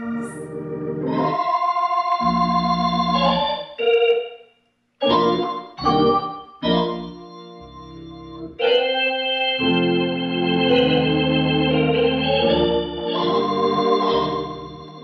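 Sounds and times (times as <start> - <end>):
organ playing held chords: 0.0 - 4.2, 5.0 - 15.0.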